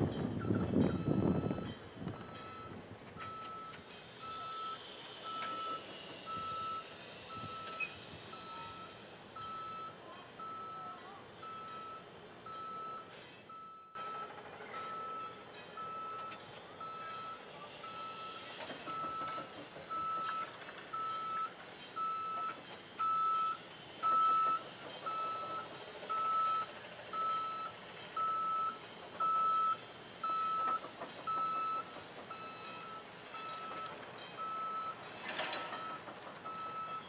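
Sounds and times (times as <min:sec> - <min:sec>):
reversing alarm beeps: 0:00.3 - 0:37.0.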